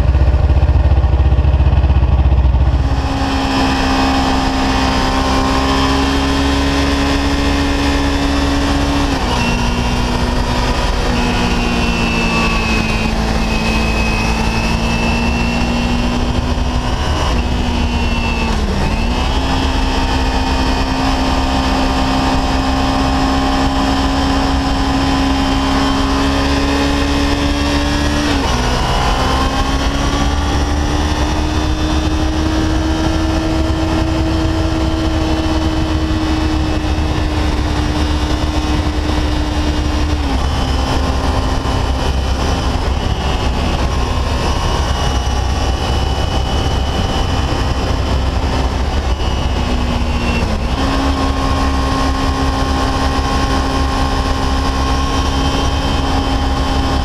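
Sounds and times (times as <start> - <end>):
low wind rush: 0.0 - 57.0
motorcycle engine running: 0.0 - 57.0.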